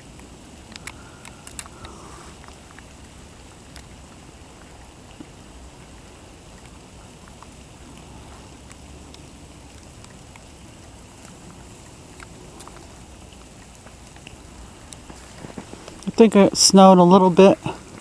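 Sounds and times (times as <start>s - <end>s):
wet snow ticking: 0.0s - 18.0s.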